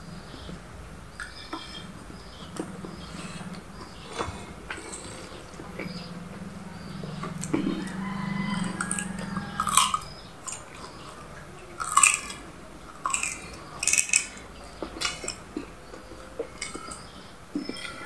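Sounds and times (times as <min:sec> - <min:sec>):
man chewing food: 0:00.0 - 0:18.0.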